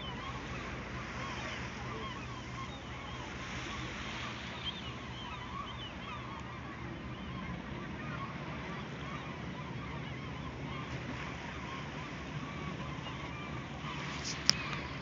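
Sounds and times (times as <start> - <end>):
boat engine hum: 0.0 - 15.0
seabirds honking: 0.0 - 15.0.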